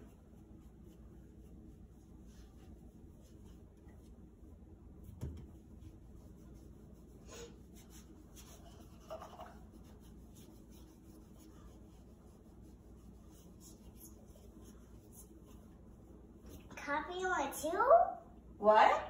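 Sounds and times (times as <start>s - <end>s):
paintbrush strokes on glass: 0.0s - 16.7s.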